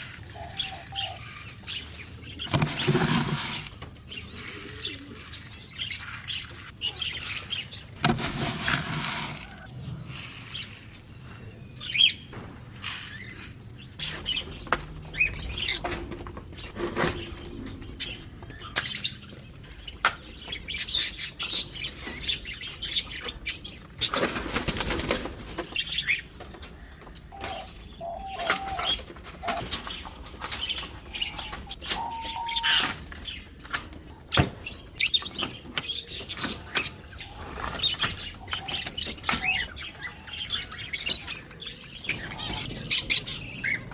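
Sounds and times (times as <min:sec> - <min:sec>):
caged birds chirping: 0:00.0 - 0:43.9.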